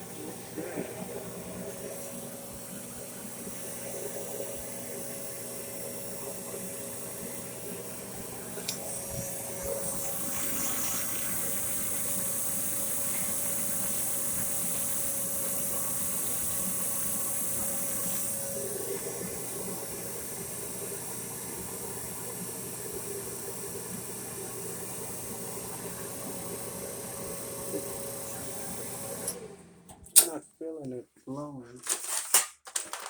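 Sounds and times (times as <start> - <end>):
dryer motor and blower hum: 0.0 - 30.4.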